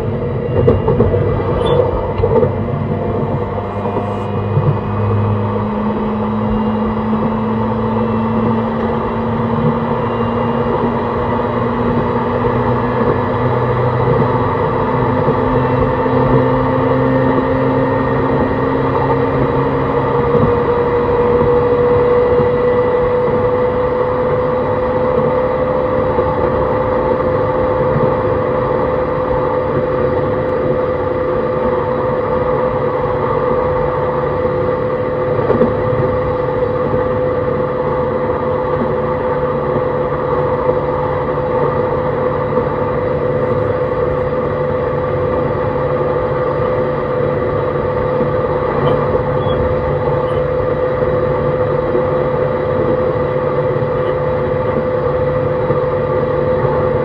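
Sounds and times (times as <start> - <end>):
electric train motor whine: 0.0 - 57.0.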